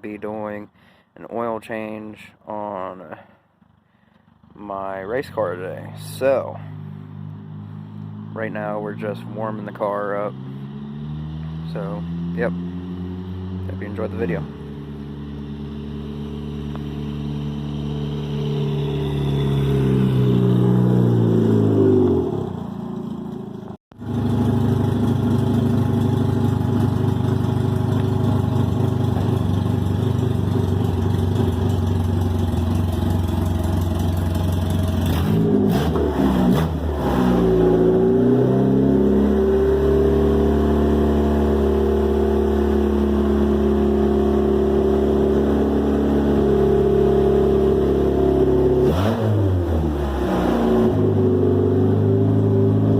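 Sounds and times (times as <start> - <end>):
race car engine revving: 5.5 - 23.3, 24.0 - 52.9.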